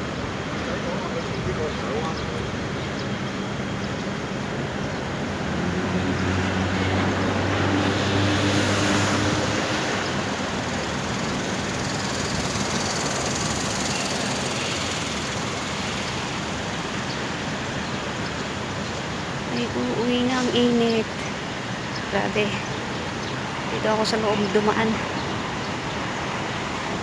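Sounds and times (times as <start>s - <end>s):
road noise: 0.0s - 27.0s
vehicle engine hum passing: 0.1s - 27.0s.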